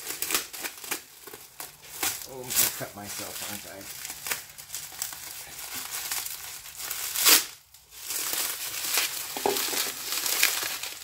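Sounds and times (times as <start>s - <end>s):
packaging tearing and crinkling: 0.0s - 11.0s.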